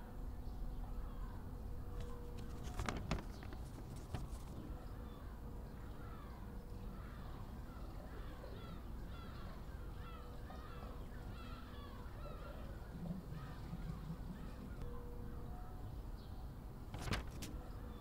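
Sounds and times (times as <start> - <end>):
low background hum: 0.0 - 18.0
birds chirping: 0.4 - 16.9.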